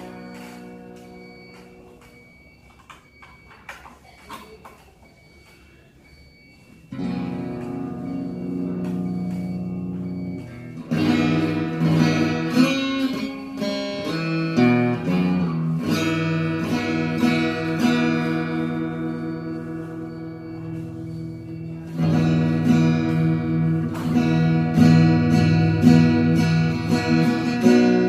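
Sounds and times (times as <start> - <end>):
acoustic guitar through amplifier: 0.0 - 28.0.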